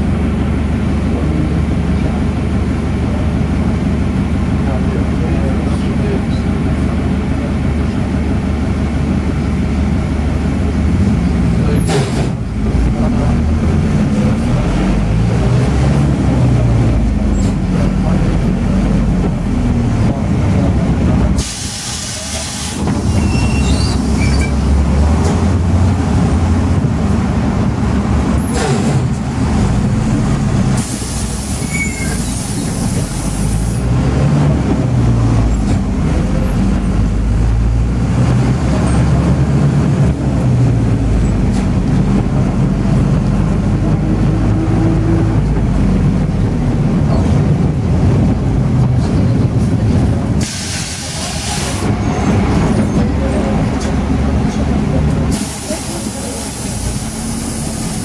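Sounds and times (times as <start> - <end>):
minibus engine running: 0.0 - 58.0.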